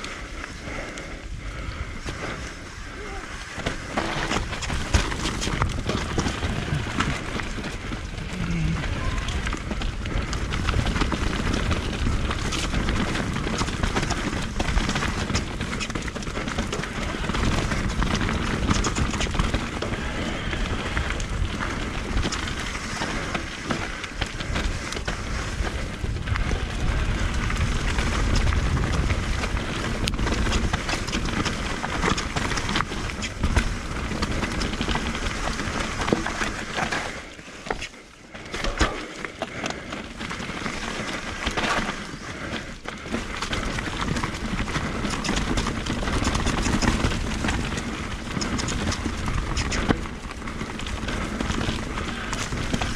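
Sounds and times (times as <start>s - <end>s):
bike rattling and knocking: 0.0s - 52.9s
bike tyres on dirt: 0.0s - 52.9s.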